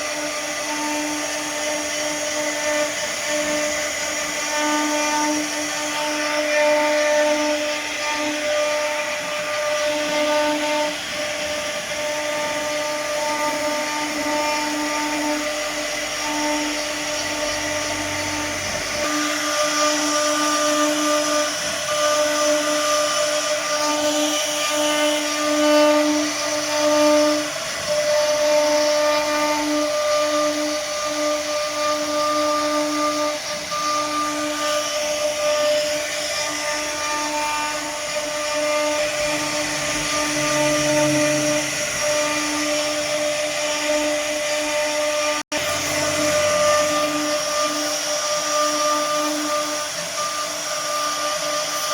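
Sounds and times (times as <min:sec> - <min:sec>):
hiss of cutting: 0:00.0 - 0:51.9
router spindle whine: 0:00.0 - 0:51.9.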